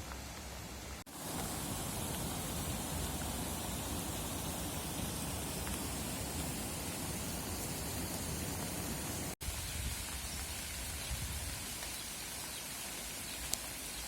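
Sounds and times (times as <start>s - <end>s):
rain falling outdoors: 0.0s - 14.0s.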